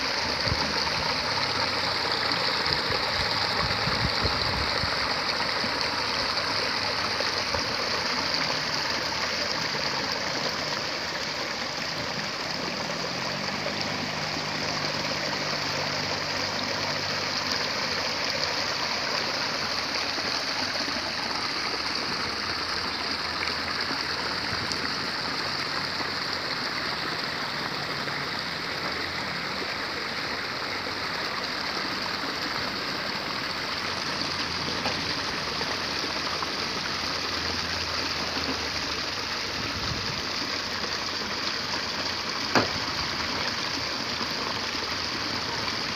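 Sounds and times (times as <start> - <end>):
water rushing through channel: 0.0 - 45.9.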